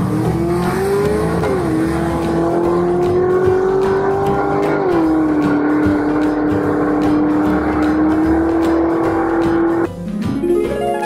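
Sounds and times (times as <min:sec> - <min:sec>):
car engine accelerating: 0:00.0 - 0:09.9.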